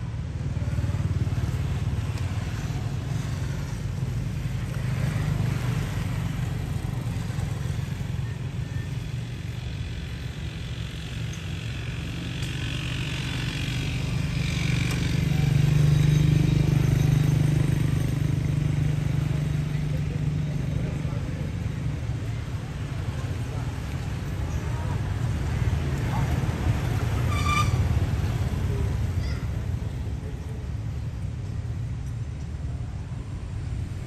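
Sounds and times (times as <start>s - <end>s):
engine low rumble: 0.0s - 34.0s.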